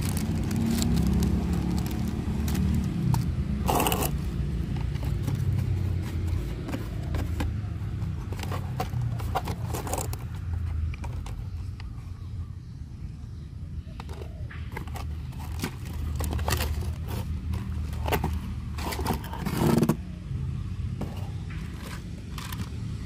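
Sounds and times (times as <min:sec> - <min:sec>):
cardboard box handling: 0:00.0 - 0:11.8, 0:14.0 - 0:20.0, 0:21.0 - 0:22.7.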